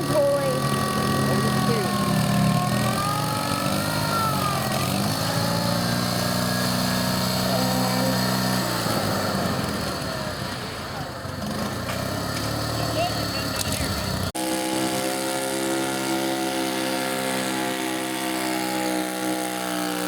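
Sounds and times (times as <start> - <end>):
garden tractor engine running: 0.0 - 20.0.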